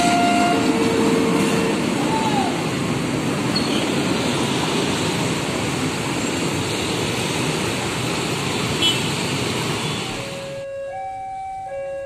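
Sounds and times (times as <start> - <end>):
motorbike traffic rushing: 0.0 - 12.0.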